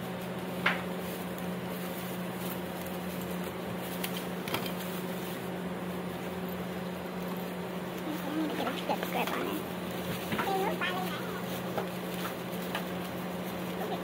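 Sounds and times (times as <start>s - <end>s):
low machine hum: 0.0s - 14.0s
plastic bags rustling: 0.9s - 14.0s.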